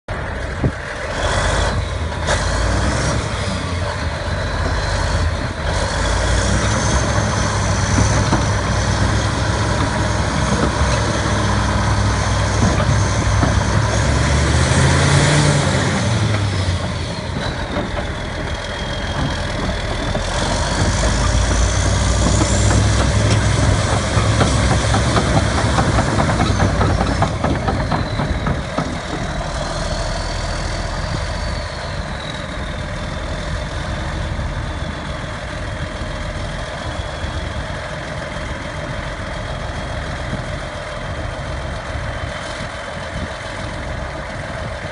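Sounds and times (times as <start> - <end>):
bulldozer diesel engine running: 0.1 - 44.9.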